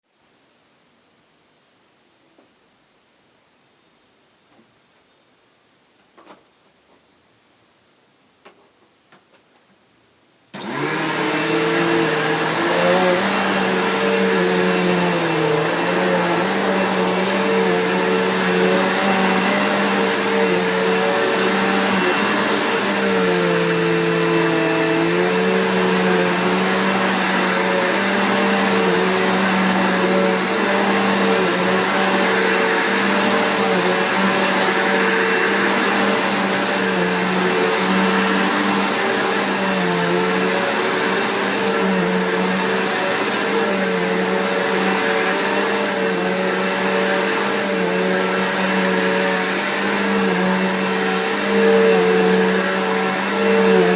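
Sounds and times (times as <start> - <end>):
vacuum cleaner running: 10.6 - 53.9.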